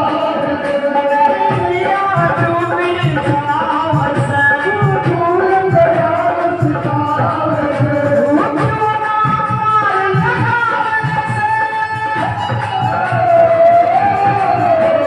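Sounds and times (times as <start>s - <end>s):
amplified instrumental backing: 0.0s - 15.0s
steady drum beat: 0.0s - 15.0s
woman singing into a microphone: 0.0s - 15.0s.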